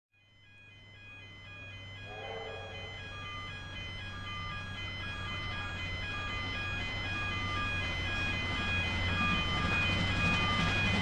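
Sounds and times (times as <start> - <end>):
electronic chime tones: 0.5 - 11.0.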